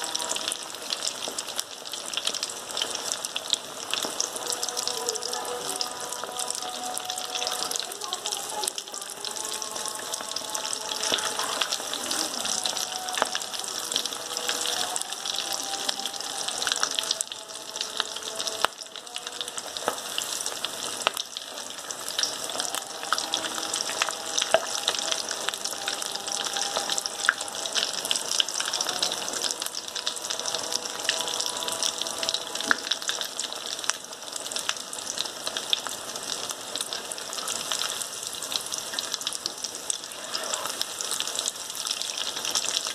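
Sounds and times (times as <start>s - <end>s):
hot oil sizzling and crackling: 0.0s - 42.9s.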